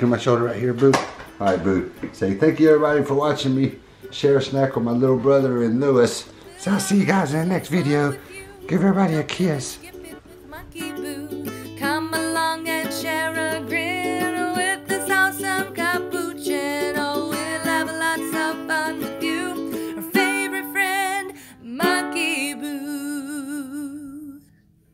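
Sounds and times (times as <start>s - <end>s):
light instrumental music: 0.0s - 22.9s.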